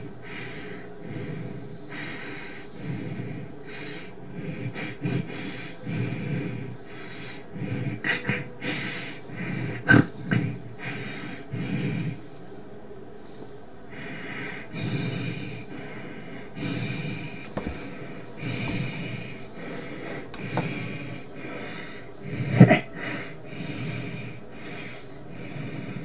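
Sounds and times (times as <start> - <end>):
heavy rapid breathing: 0.0 - 12.3, 13.1 - 26.0.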